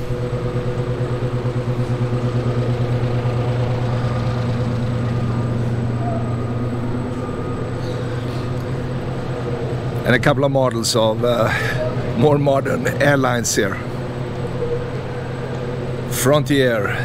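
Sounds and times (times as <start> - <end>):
ceiling fans humming: 0.0 - 17.0.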